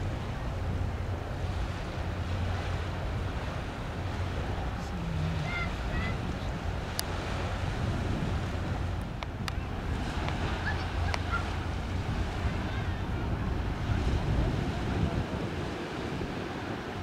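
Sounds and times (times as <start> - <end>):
river water washing: 0.0 - 17.0
wind rumble on microphone: 0.0 - 17.0.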